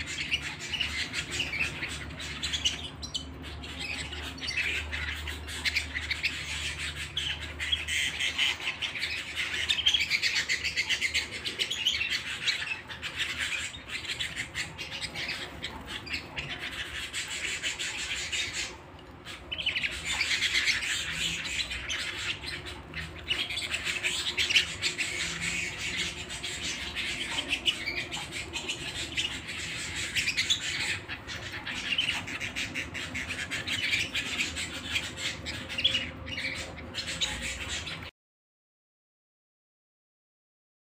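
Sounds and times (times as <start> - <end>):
canary singing: 0.0 - 38.1.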